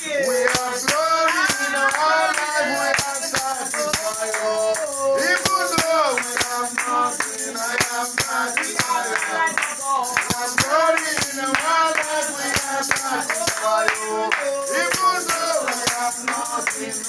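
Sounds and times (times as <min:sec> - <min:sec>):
percussion beat: 0:00.0 - 0:17.0
voices singing: 0:00.0 - 0:17.0.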